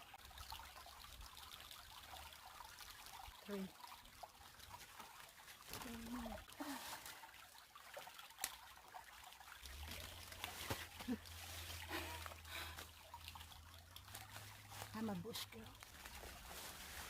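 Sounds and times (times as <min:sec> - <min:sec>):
creek trickling faintly: 0:00.0 - 0:17.0.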